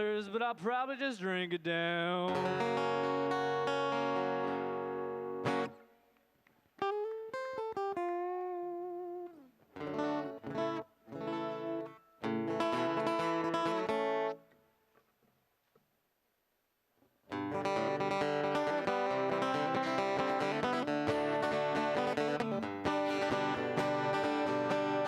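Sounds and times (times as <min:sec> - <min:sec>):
solo guitar: 0:00.0 - 0:15.0, 0:17.2 - 0:25.0.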